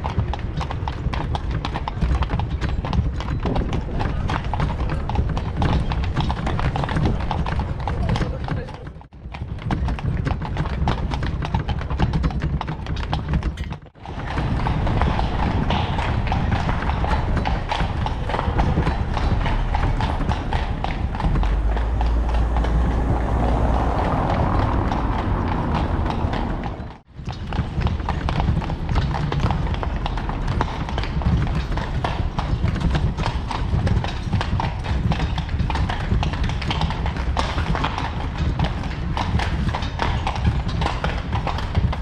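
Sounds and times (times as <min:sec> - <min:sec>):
horse hooves clip-clopping: 0:00.0 - 0:42.0.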